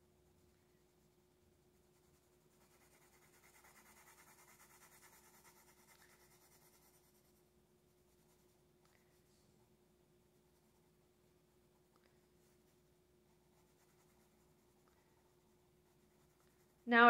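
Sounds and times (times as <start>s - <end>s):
pencil scratching on paper: 0.3s - 7.4s, 8.0s - 8.6s, 10.4s - 17.0s.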